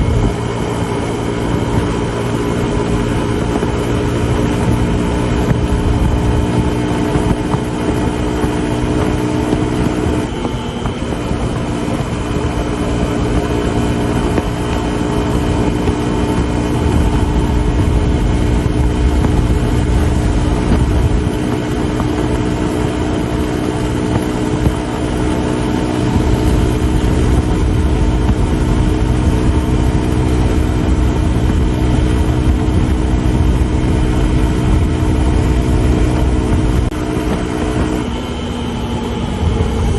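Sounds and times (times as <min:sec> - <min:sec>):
motorcycle engine running at high speed: 0:00.0 - 0:39.9
wind and road rumble: 0:00.0 - 0:39.9.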